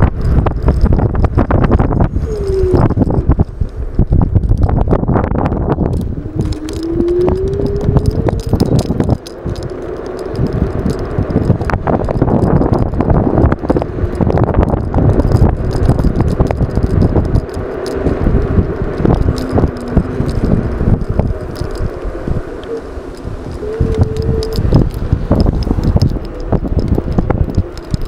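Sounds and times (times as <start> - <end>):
rattles: 0.0 - 28.0
tyre and road rumble: 0.0 - 28.0
wind buffeting microphone: 0.0 - 28.0.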